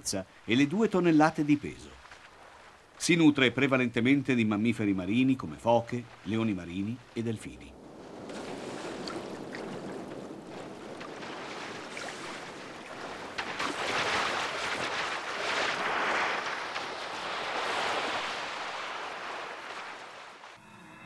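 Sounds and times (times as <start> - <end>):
sea water splashing: 0.3 - 20.6.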